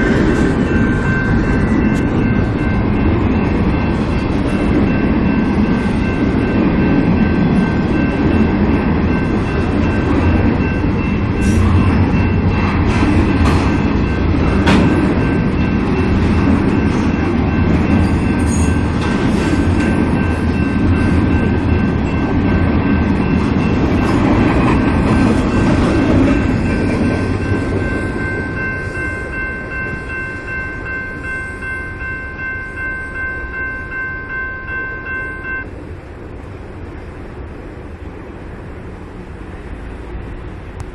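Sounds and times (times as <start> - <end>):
freight train rumbling on rails: 0.0 - 40.9.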